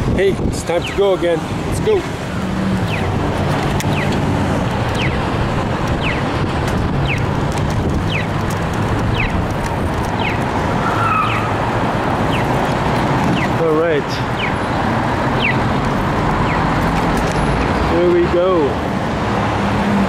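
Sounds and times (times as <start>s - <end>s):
wind buffeting microphone: 0.0s - 17.9s
car traffic noise: 0.0s - 20.0s.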